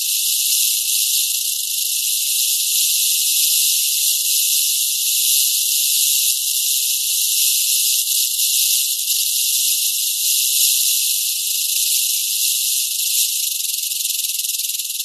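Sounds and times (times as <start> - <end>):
rattlesnake rattle buzzing: 0.0 - 15.0.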